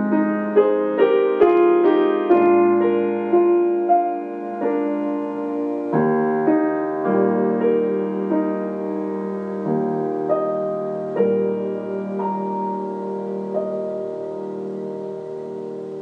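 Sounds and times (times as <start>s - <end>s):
solo piano playing softly: 0.0s - 16.0s.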